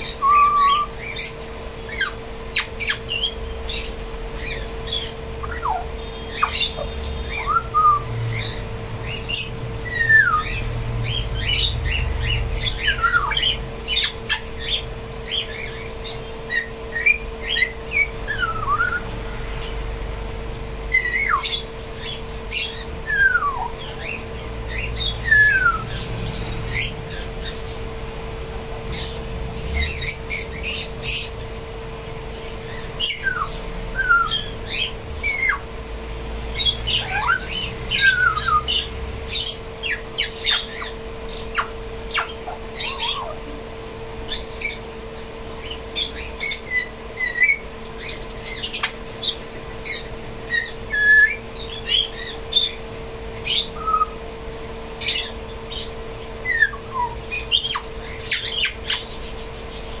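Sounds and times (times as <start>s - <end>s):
parrot chirping squawking and whistling: 0.0s - 19.8s, 20.8s - 28.0s, 28.8s - 31.4s, 32.3s - 60.0s
steady low hum: 0.0s - 60.0s.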